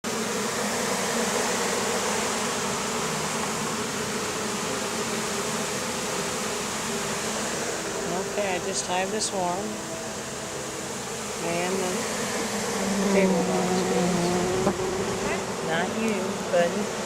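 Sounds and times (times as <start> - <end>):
honeybees buzzing: 0.1 - 17.0.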